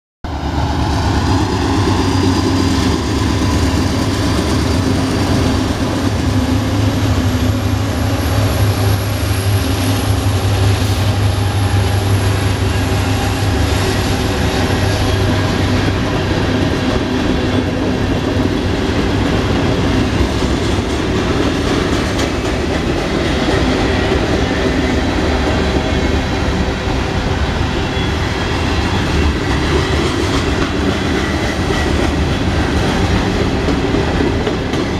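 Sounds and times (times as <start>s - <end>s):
diesel locomotives rumbling: 0.2s - 34.9s
freight cars rolling on rails: 0.3s - 34.9s.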